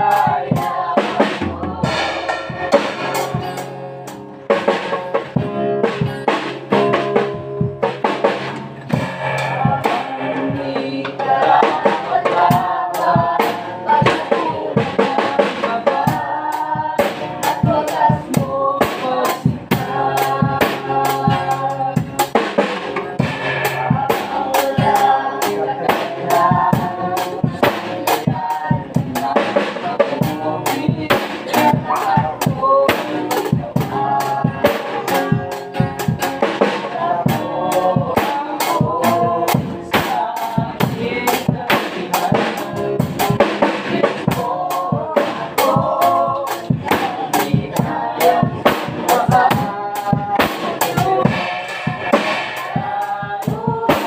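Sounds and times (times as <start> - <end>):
drum kit beat: 0.0 - 54.0
group singing a hymn: 0.0 - 54.0.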